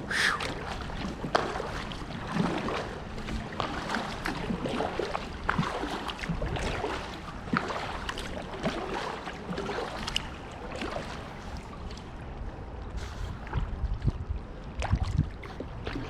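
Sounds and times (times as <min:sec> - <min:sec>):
water splashing around kayak: 0:00.0 - 0:16.0
wind rumble on microphone: 0:00.0 - 0:16.0.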